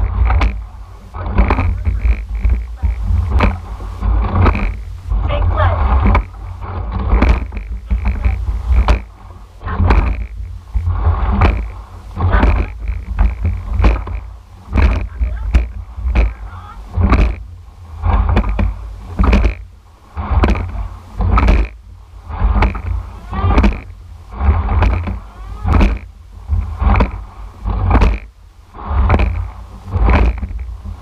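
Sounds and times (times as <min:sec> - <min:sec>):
oars and oarlocks working: 0:00.0 - 0:31.0
water rushing along hull: 0:00.0 - 0:31.0
wind rumble on microphone: 0:00.0 - 0:31.0.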